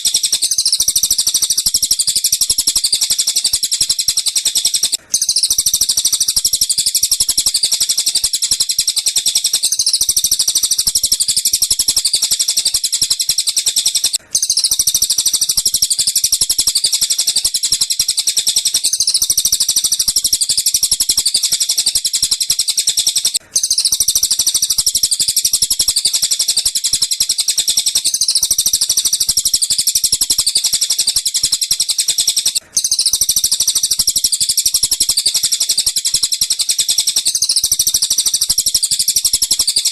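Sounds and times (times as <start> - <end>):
birds chirping and twittering: 0.0 - 39.8.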